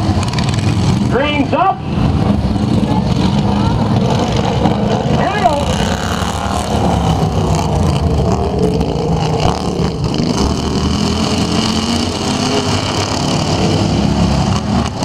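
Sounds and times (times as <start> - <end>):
racing lawn tractor engines: 0.0 - 15.0.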